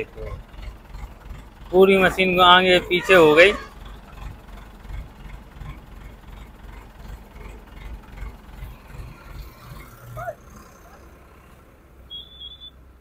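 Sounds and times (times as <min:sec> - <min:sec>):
engine rumbling at low speed: 0:00.0 - 0:13.0.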